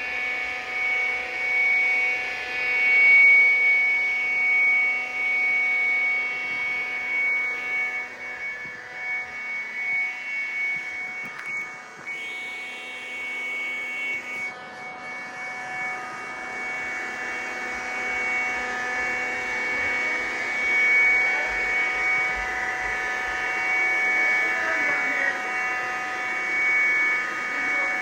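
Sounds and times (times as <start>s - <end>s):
robot floor scrubber running: 0.0s - 28.0s.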